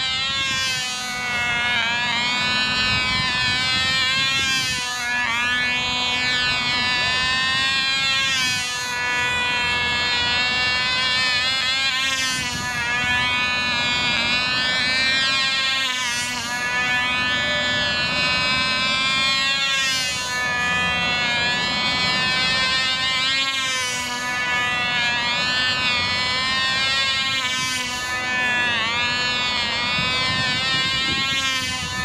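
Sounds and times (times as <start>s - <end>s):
model airplane engine buzzing: 0.0s - 32.0s.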